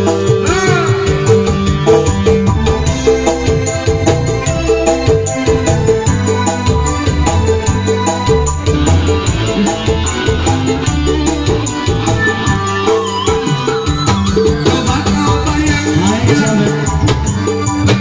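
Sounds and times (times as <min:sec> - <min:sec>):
bass line: 0:00.0 - 0:18.0
electronic keyboard melody: 0:00.0 - 0:18.0
hand drum pattern: 0:00.0 - 0:18.0.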